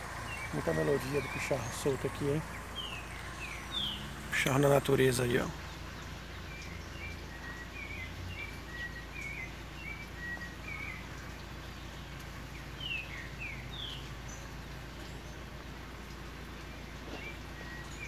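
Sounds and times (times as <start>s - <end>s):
bird singing: 0.0s - 15.5s, 16.4s - 18.0s.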